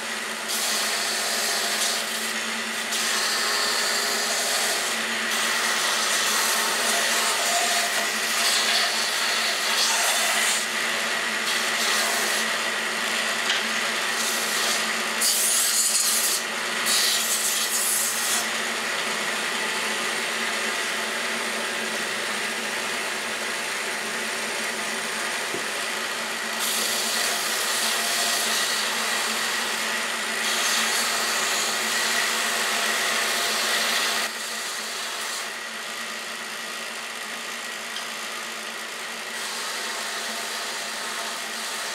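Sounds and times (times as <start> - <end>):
saw blade cutting wood: 0.0 - 35.7, 37.0 - 41.9
band saw running: 0.0 - 41.9.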